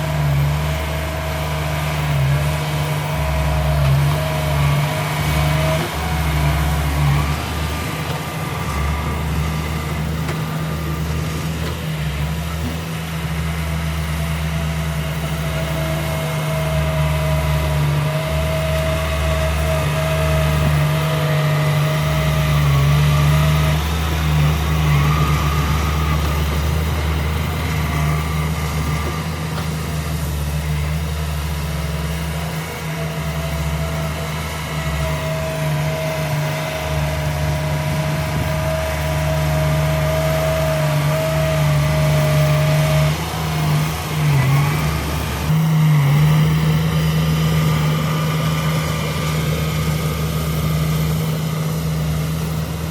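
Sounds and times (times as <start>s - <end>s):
heavy diesel engine droning: 0.0s - 52.9s
thin engine whine: 0.0s - 52.9s.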